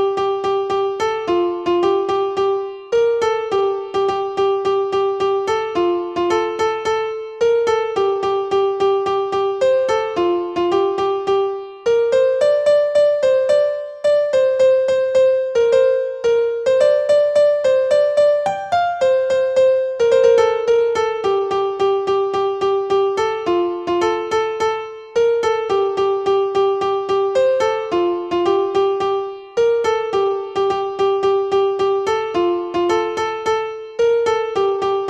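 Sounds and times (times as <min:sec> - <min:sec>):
piano-like keyboard melody: 0:00.0 - 0:35.0.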